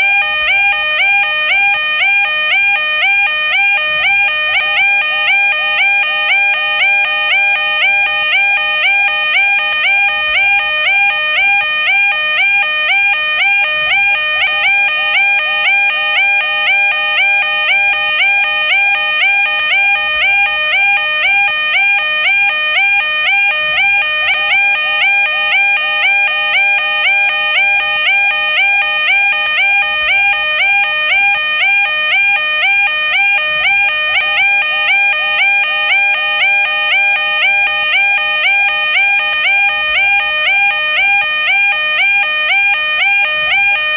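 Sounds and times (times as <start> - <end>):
two-tone warbling warning alarm: 0.0 - 43.9.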